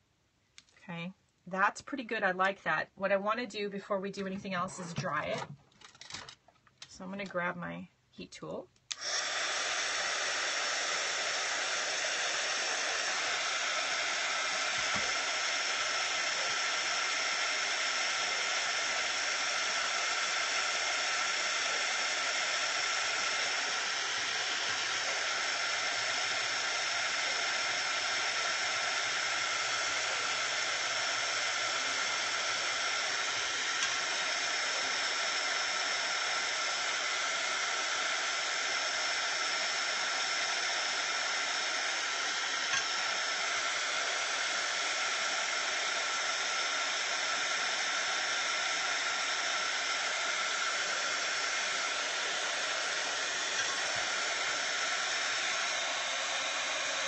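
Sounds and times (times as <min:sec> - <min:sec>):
heat tool blowing hot air: 0:08.9 - 0:57.0.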